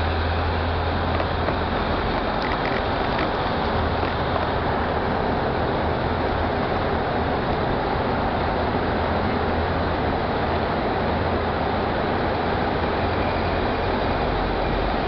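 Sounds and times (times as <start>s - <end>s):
car engine droning: 0.0s - 15.0s
tyre and traffic noise: 0.0s - 15.0s.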